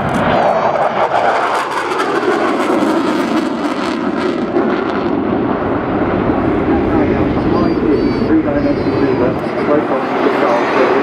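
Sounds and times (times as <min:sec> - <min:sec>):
jet aircraft flying by: 0:00.0 - 0:11.0.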